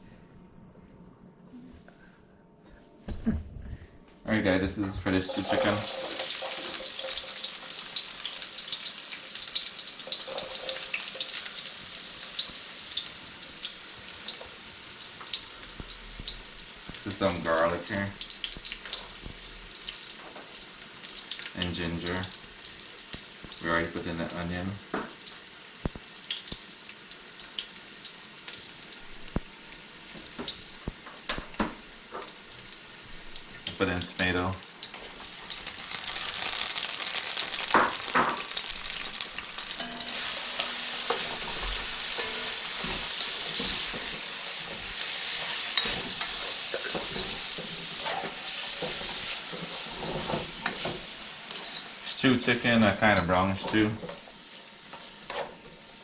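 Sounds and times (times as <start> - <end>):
onion sizzling with crackles: 5.0 - 56.0.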